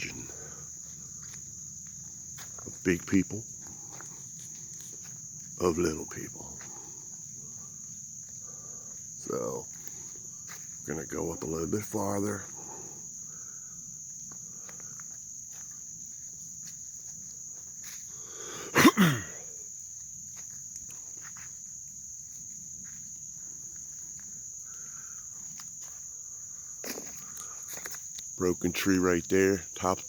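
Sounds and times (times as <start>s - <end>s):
crickets trilling: 0.0s - 30.0s
footsteps in wet woods: 0.0s - 30.0s.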